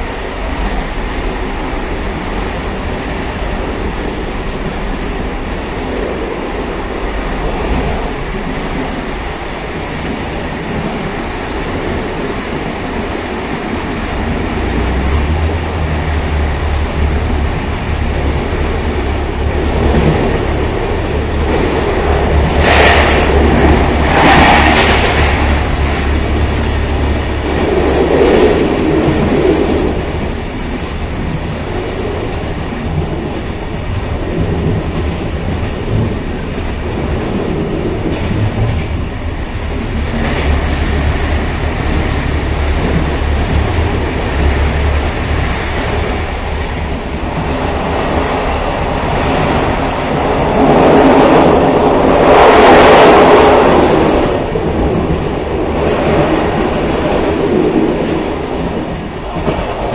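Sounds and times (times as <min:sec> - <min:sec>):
train wheels clacking on rails: 0:00.0 - 0:59.9.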